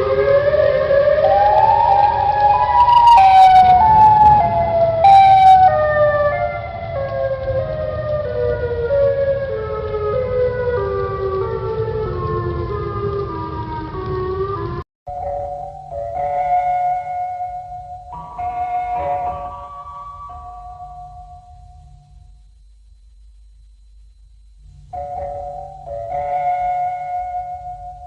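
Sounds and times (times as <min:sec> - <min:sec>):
electronic alert siren tone: 0:00.0 - 0:22.5, 0:24.2 - 0:28.0
steady low rumble: 0:00.0 - 0:28.0.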